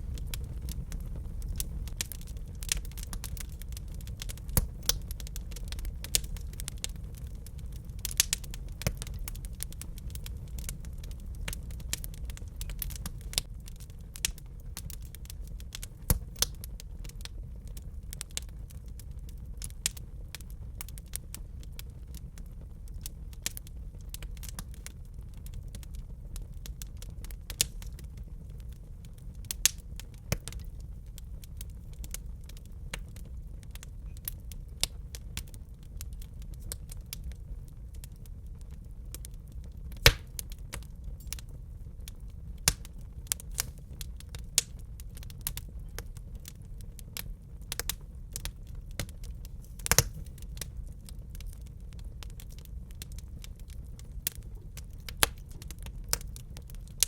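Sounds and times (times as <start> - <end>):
fire low rumble: 0.0 - 57.0
wood fire crackling and popping: 0.0 - 57.0.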